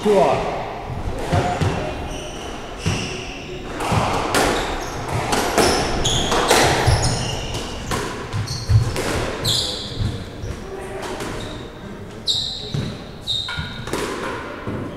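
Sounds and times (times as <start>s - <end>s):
squash ball smacking rackets and walls: 0.8s - 14.9s
shoes squeaking on wooden floor: 1.2s - 13.9s.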